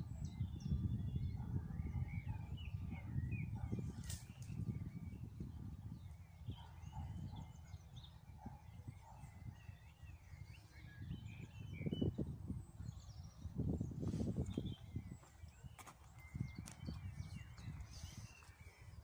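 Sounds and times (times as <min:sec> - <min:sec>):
wind rumble: 0:00.0 - 0:09.5, 0:10.5 - 0:19.0
small birds chirping: 0:00.0 - 0:19.0.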